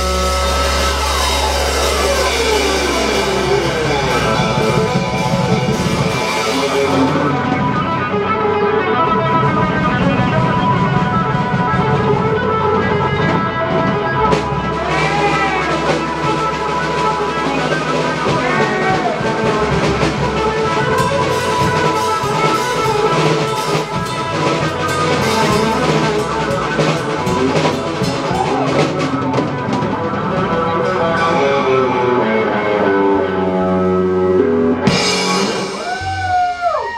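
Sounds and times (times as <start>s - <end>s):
drum kit: 0.0s - 36.9s
electric guitar playing lead: 0.0s - 36.9s.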